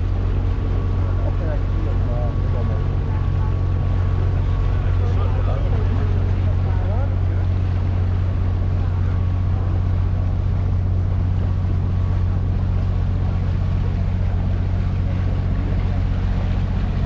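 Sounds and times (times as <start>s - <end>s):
boat motor humming: 0.0s - 17.0s
water washing along hull: 0.0s - 17.0s.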